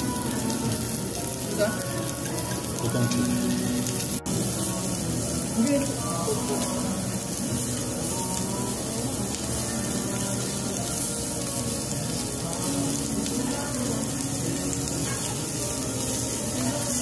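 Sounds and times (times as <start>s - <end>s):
background music: 0.0s - 17.0s
meat sizzling on a grill: 0.0s - 17.0s.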